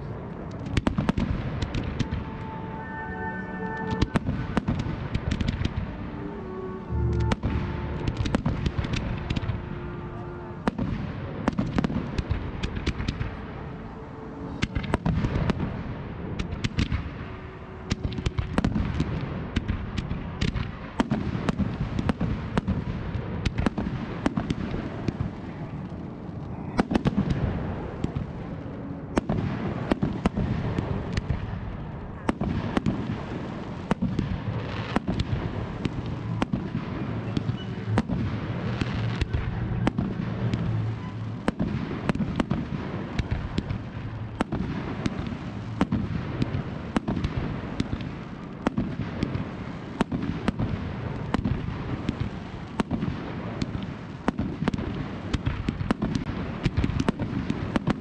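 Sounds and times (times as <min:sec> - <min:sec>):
continuous rumble: 0:00.0 - 0:58.0
fireworks bangs and crackles: 0:00.0 - 0:58.0.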